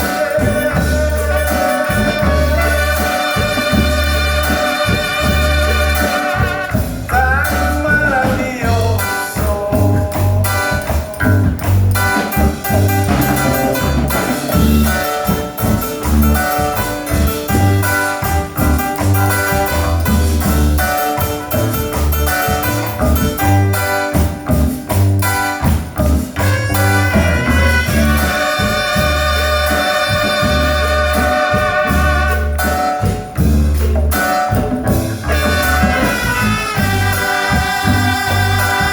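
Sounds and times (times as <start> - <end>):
brass horns: 0.0 - 8.6, 12.0 - 24.1, 26.4 - 33.2, 33.8 - 38.9
steady bass beat: 0.0 - 38.9.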